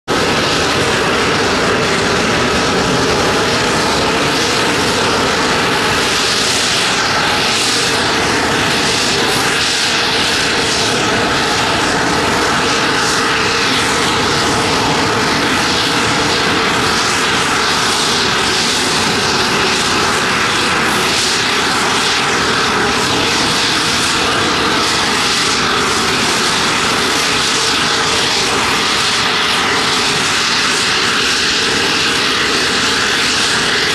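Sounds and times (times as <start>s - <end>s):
jet engine spooling up: 0.1s - 33.9s.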